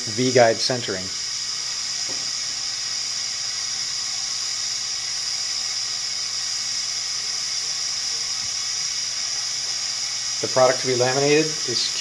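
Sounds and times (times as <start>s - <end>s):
laminator air hiss: 0.0s - 12.0s.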